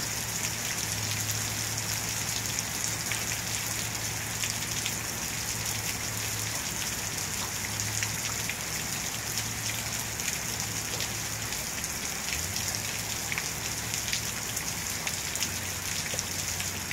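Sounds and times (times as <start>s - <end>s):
steady rain falling: 0.0s - 16.9s
raindrops ticking: 0.2s - 16.9s.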